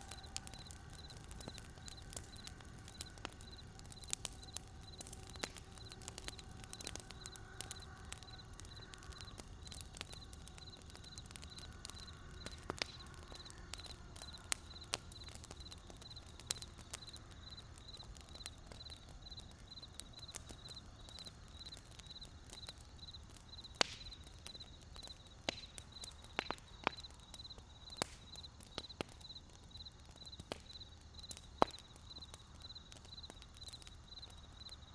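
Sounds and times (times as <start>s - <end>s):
sharp fire pops: 0.0s - 34.8s
burning wood crackling: 0.0s - 34.9s.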